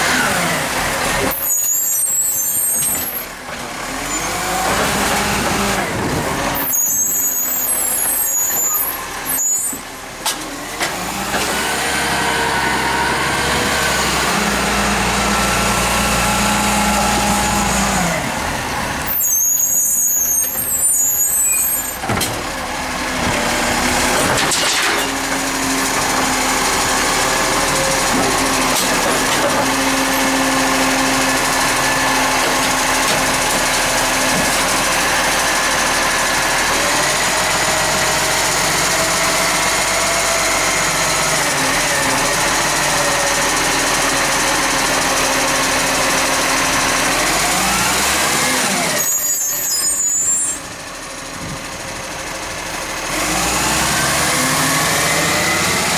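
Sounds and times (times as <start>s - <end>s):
garbage truck engine: 0.0s - 55.9s.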